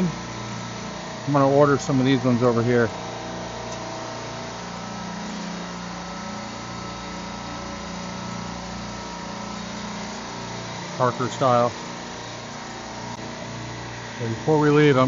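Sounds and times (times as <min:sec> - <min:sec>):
refrigeration compressor hum: 0:00.0 - 0:15.0.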